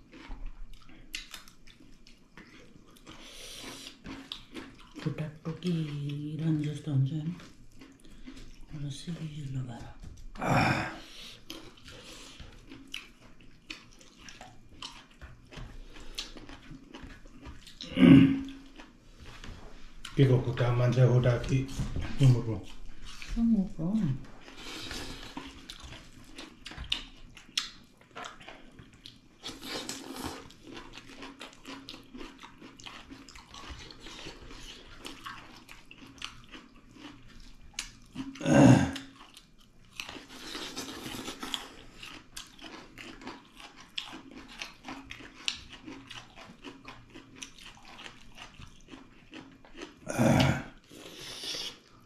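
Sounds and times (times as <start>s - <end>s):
wet chewing and crunching: 0.0s - 52.0s.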